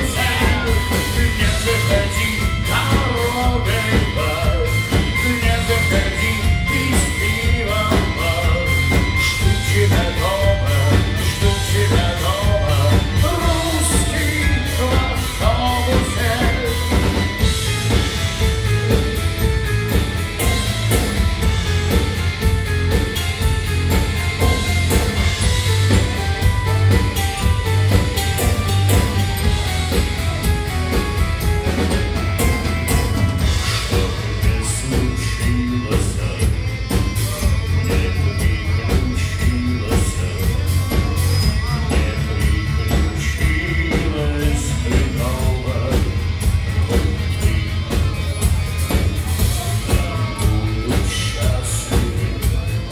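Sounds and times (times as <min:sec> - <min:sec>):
person singing: 0:00.0 - 0:19.0, 0:22.9 - 0:52.9
bass guitar: 0:00.0 - 0:52.9
drum kit beat: 0:00.0 - 0:52.9
electric guitar: 0:00.0 - 0:52.9.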